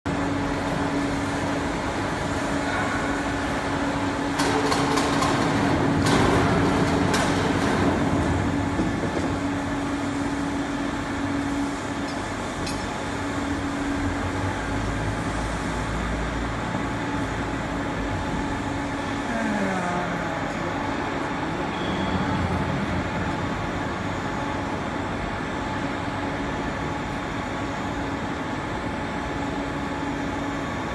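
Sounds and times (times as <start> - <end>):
industrial machinery hum: 0.1 - 30.9.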